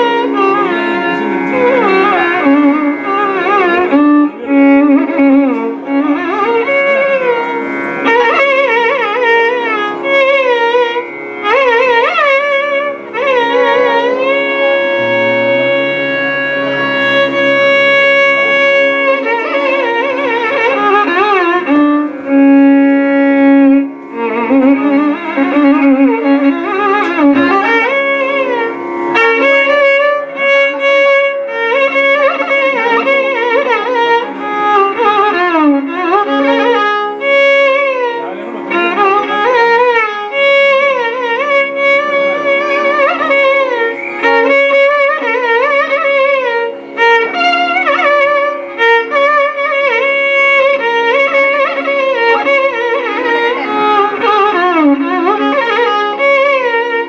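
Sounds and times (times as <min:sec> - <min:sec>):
steady drone: 0:00.0 - 0:57.0
violin playing ornamented melody: 0:00.0 - 0:57.0.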